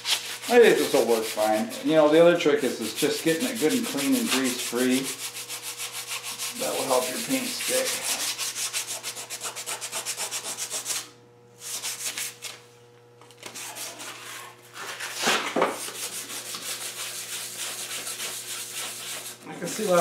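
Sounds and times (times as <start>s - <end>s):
hand sanding metal: 0.0s - 12.6s, 13.4s - 20.0s.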